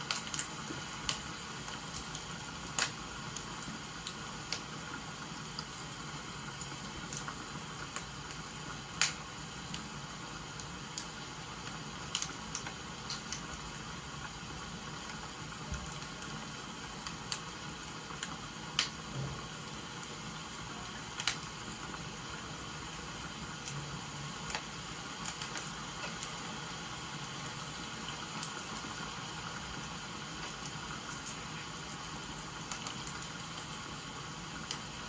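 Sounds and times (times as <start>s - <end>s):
rain hissing: 0.0s - 35.0s
wood fire crackling and popping: 0.0s - 35.0s.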